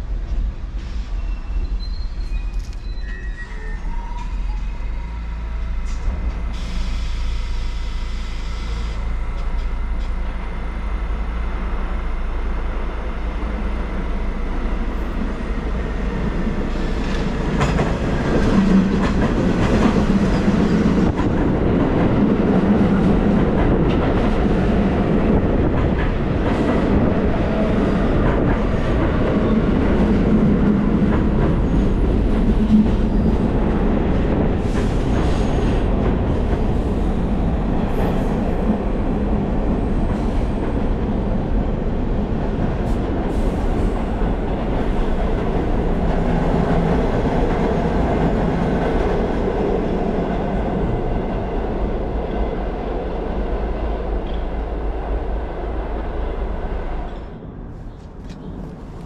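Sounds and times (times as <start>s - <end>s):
train running on rails: 0.0s - 59.0s.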